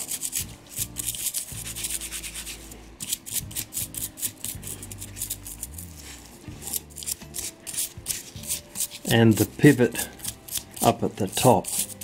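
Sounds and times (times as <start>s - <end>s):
toothbrush scrubbing metal parts: 0.0s - 12.0s.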